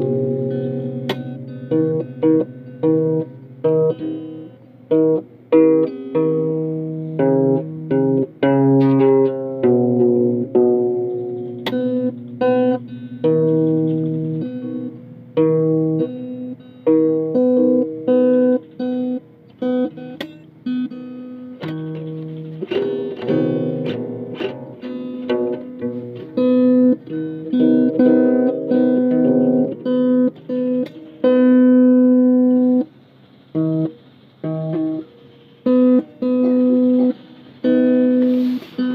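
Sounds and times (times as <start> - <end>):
guitar plucked notes and chords: 0.0 - 38.9.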